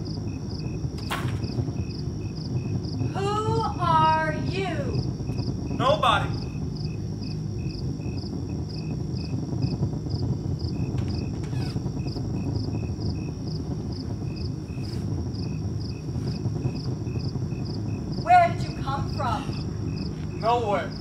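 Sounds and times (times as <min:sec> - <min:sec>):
cricket chirping: 0:00.0 - 0:21.0
low background rumble: 0:00.0 - 0:21.0.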